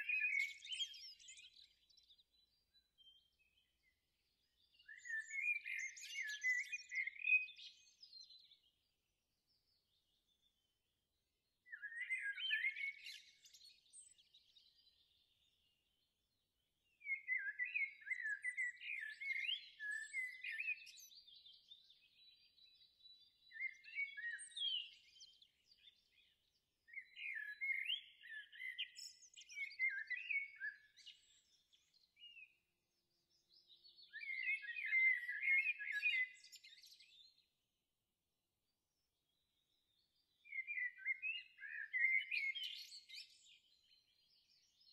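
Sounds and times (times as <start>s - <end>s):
songbird chirps and trills: 0.0s - 44.9s.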